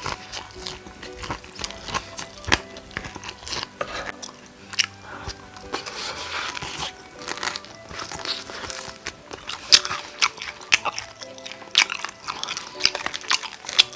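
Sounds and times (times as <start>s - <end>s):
crunching and chewing fried chicken: 0.0s - 13.9s
soft music: 0.0s - 13.9s.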